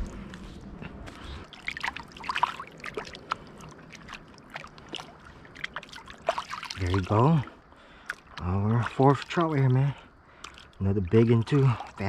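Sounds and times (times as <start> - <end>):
river water splashing and trickling: 0.0 - 12.0.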